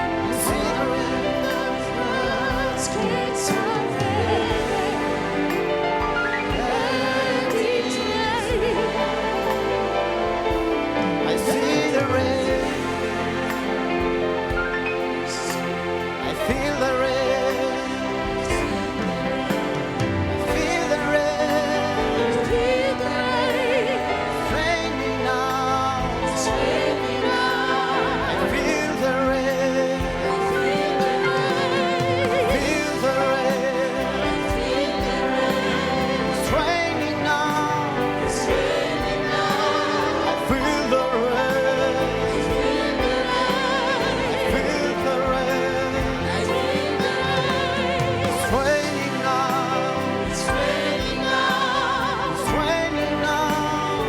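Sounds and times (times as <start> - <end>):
gospel singing with vibrato: 0.0 - 54.0
instrumental backing music: 0.0 - 54.0.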